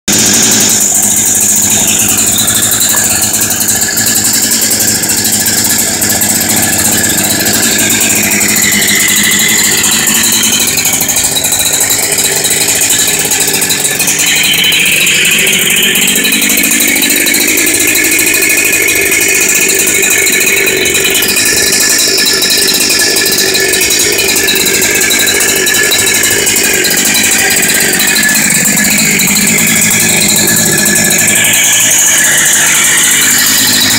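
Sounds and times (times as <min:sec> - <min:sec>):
chainsaw running at high revs: 0:00.0 - 0:33.9.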